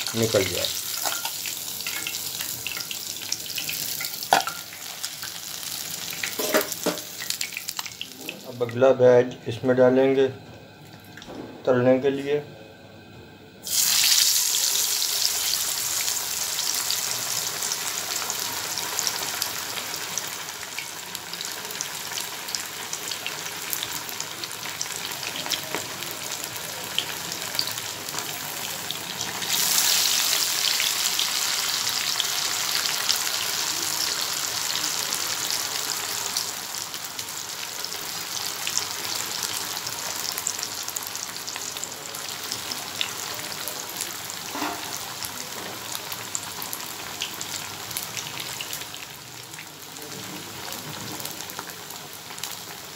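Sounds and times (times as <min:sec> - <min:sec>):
fish deep-frying in hot oil: 0:00.0 - 0:08.6, 0:13.6 - 0:52.9.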